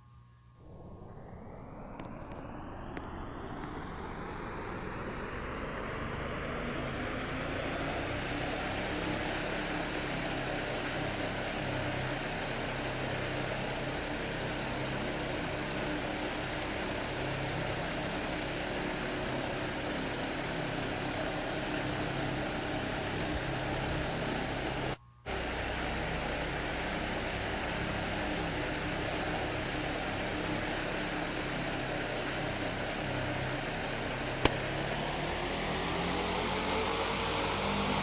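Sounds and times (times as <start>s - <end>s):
low motor hum: 0.5s - 38.0s
fan air rushing: 0.6s - 38.0s.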